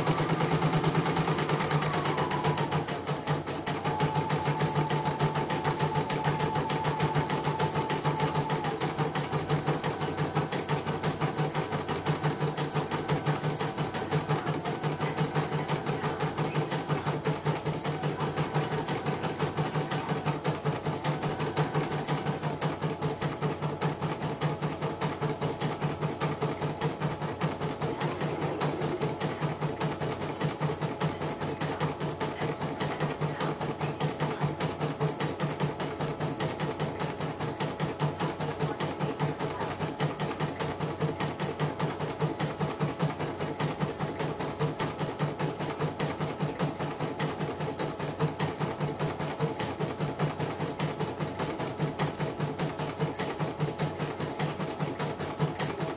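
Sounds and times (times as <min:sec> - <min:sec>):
embroidery machine stitching: 0:00.0 - 0:55.9.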